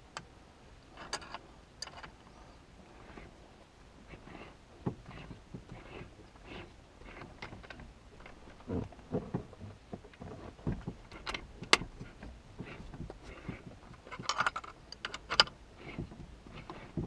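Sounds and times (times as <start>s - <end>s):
steering cable clicks and rattles: 0.9s - 2.4s, 4.0s - 17.0s.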